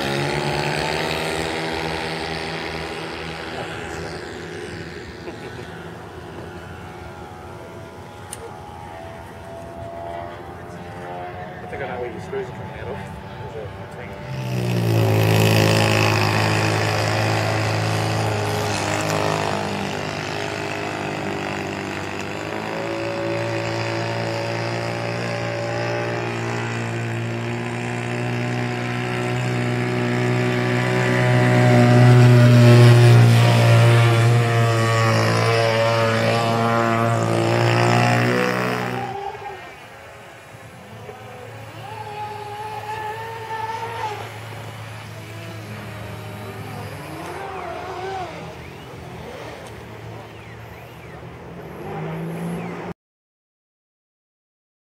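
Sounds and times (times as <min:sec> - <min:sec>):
model speedboat engine running: 0:00.0 - 0:52.7
higher-pitched motor: 0:00.0 - 0:52.9.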